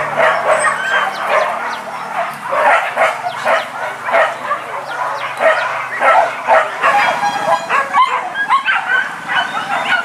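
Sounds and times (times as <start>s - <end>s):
dogs barking and yelping: 0.0s - 10.0s.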